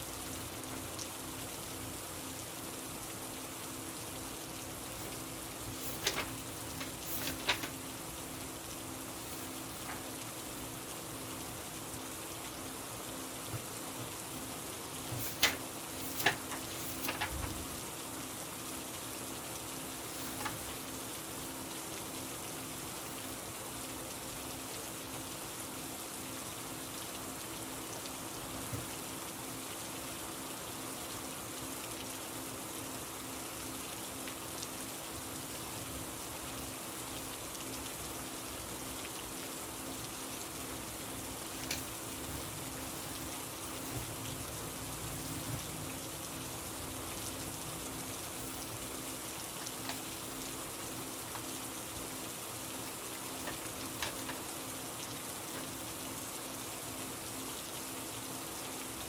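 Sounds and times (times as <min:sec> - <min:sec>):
sharp raindrop ticks: 0:00.0 - 0:32.2, 0:32.8 - 0:59.0
steady rain falling: 0:00.0 - 0:59.0.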